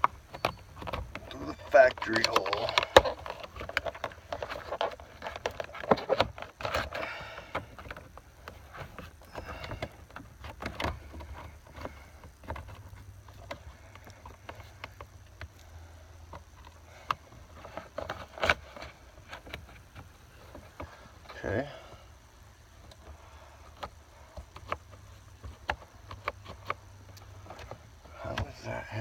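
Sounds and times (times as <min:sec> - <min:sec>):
faint low hum: 0:00.0 - 0:29.0
plastic parts clicking and rubbing: 0:00.0 - 0:29.0.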